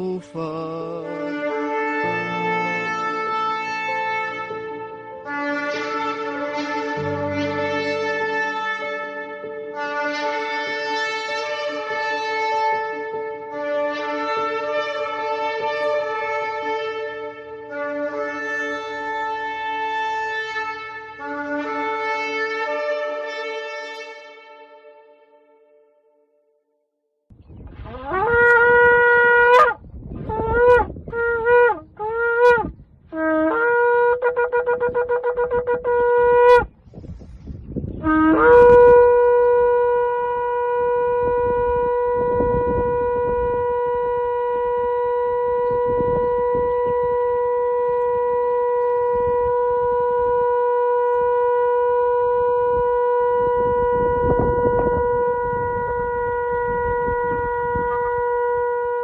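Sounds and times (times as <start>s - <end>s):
shofar blasts: 0.0s - 25.6s, 27.8s - 37.0s, 37.8s - 59.0s.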